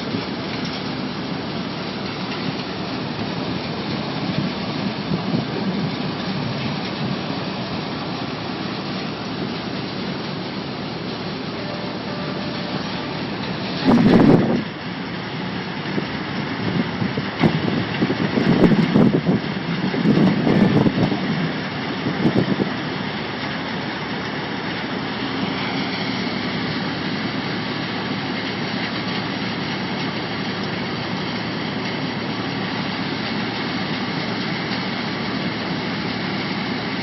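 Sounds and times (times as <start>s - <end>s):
sand washing machine running: 0.0s - 37.0s.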